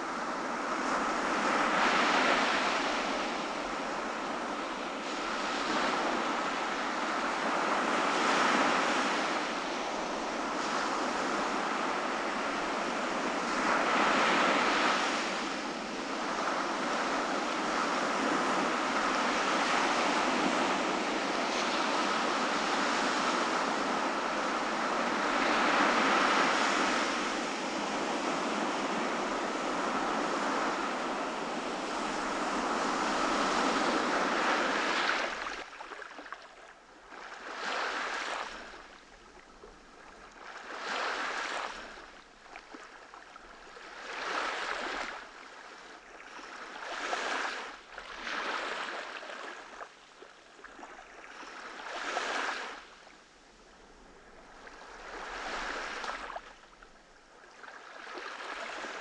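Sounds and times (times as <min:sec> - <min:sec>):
ocean surf washing: 0:00.0 - 0:36.3, 0:40.2 - 0:49.8, 0:53.8 - 0:59.0
waves breaking: 0:00.1 - 0:59.0.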